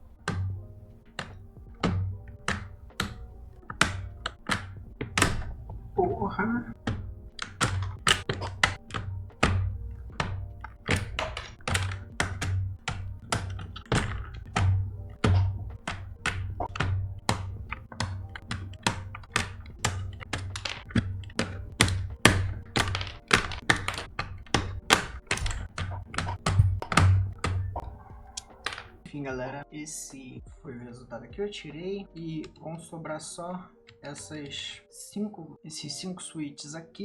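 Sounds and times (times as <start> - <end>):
faint music: 0.0 - 37.0.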